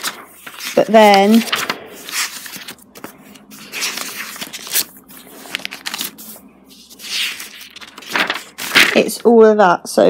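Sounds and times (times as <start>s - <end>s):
notebook pages flipping: 0.0s - 9.2s.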